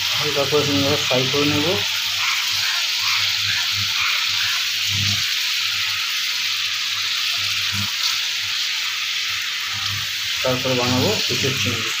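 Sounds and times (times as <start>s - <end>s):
prawns sizzling in oil: 0.0s - 12.0s
spatula stirring in pan: 1.0s - 11.3s.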